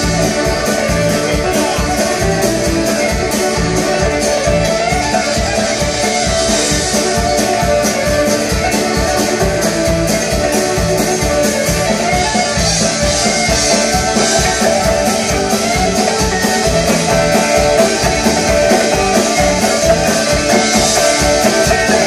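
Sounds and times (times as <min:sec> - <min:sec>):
accordion: 0:00.0 - 0:22.0
banjo: 0:00.0 - 0:22.0
fiddle: 0:00.0 - 0:22.0
guitars: 0:00.0 - 0:22.0
steady beat: 0:00.0 - 0:22.0.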